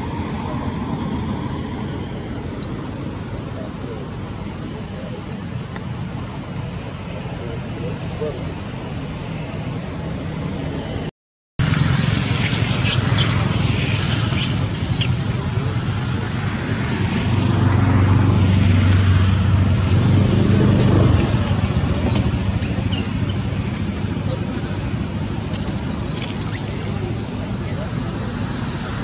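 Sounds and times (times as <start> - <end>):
road traffic noise: 0.0 - 29.0
vehicle engine hum passing: 0.0 - 29.0.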